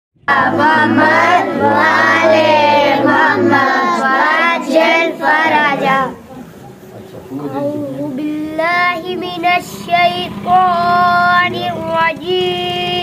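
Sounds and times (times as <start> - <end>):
young voice singing: 0.2 - 6.2, 7.7 - 13.0.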